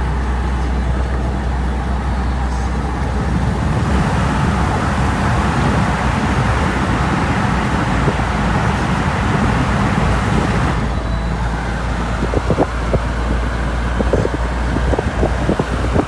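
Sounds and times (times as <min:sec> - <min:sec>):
road vehicle rumble: 0:00.0 - 0:16.0.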